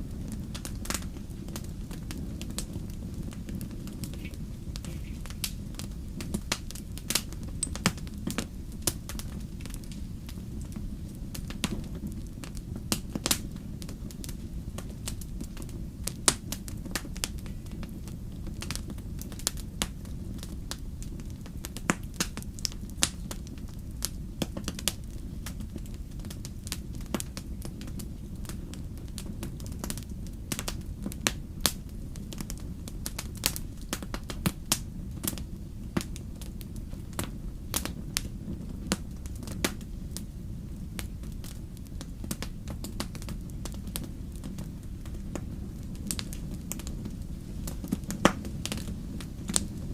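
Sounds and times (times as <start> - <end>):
flames rumbling: 0.0 - 49.9
logs crackling and popping: 0.0 - 49.9.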